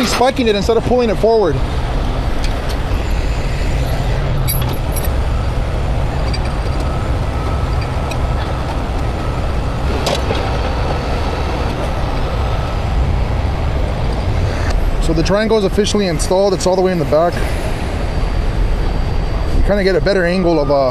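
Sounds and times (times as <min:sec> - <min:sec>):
vehicle engines and road traffic: 0:00.0 - 0:20.9.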